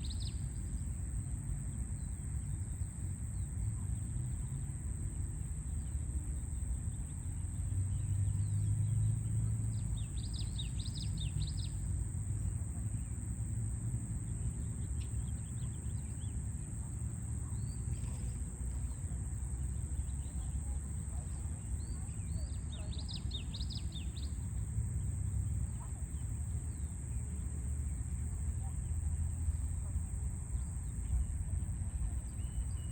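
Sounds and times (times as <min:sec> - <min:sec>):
distant city traffic rumble: 0:00.0 - 0:32.9.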